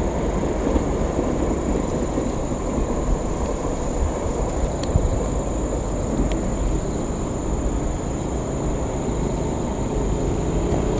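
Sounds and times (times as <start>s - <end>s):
electric train rumbling: 0.0s - 10.9s.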